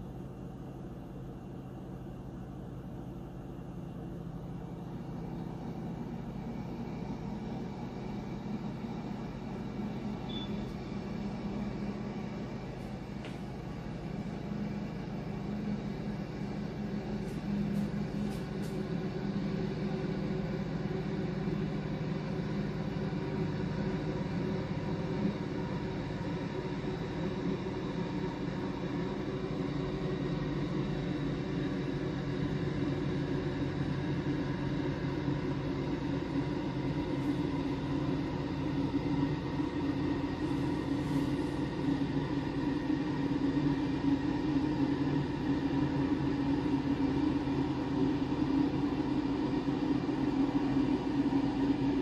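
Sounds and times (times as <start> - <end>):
espresso machine humming: 3.1 - 52.0.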